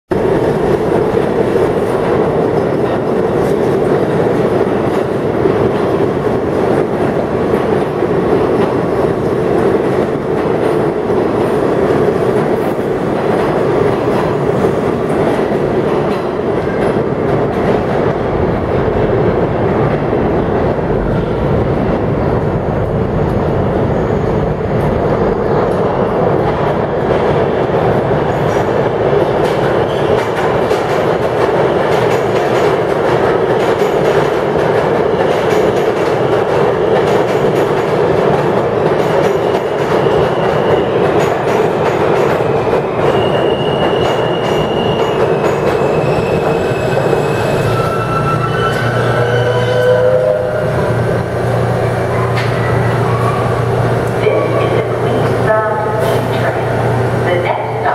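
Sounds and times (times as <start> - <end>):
subway train wheels rumbling: 0.1 - 57.9.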